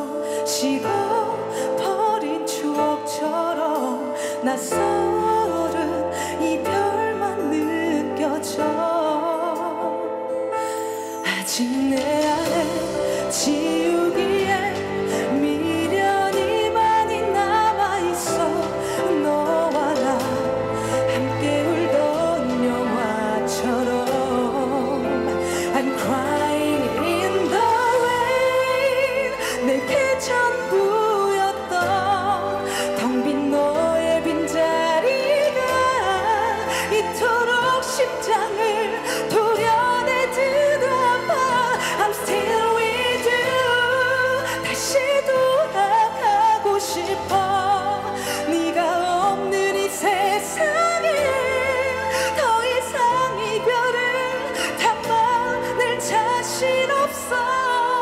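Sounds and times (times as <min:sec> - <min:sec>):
instrumental accompaniment: 0:00.0 - 0:58.0
woman singing ballad: 0:00.0 - 0:58.0.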